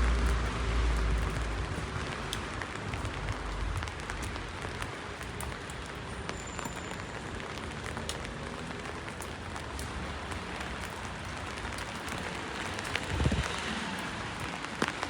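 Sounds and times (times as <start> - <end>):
rain on hard surfaces: 0.0 - 15.0
raindrops ticking close by: 0.0 - 15.0.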